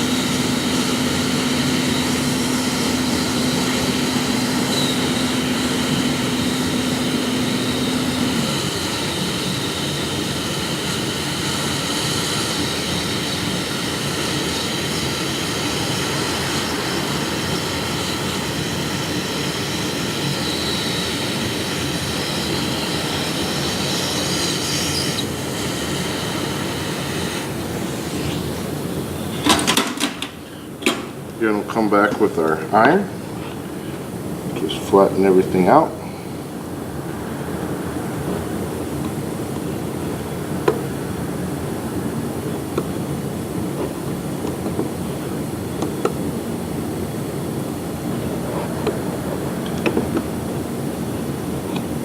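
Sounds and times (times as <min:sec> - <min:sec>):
hot gas jet hissing with whine: 0:00.0 - 0:52.0.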